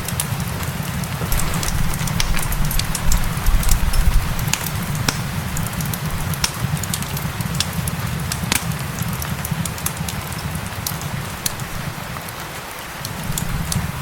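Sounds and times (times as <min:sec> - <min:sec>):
rain: 0:00.0 - 0:14.0
wood fire crackling: 0:00.0 - 0:14.0.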